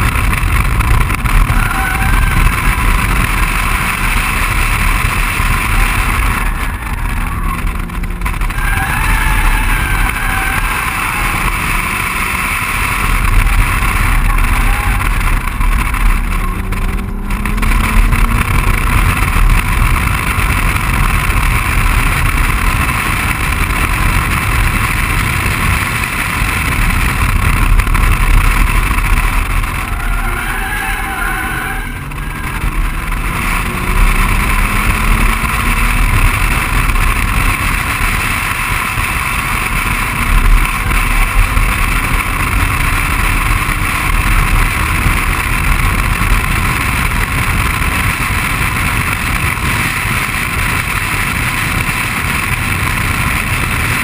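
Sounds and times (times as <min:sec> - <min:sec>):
car engine accelerating hard: 0:00.0 - 0:54.0
wind rushing on camera: 0:00.0 - 0:54.0.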